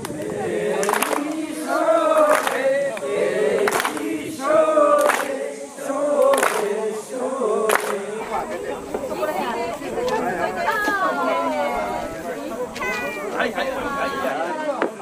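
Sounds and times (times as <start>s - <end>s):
group of voices singing: 0.0s - 14.5s.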